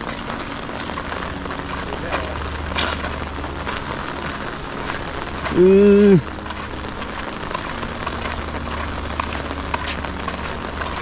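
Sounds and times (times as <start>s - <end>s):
rain falling on gravel: 0.0s - 11.0s.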